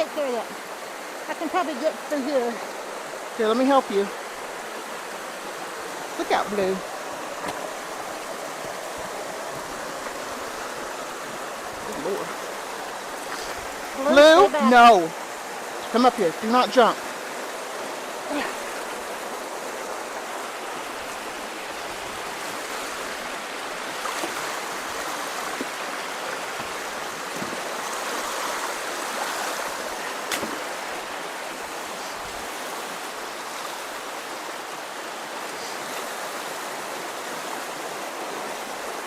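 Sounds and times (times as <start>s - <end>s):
creek water rushing: 0.0s - 39.0s.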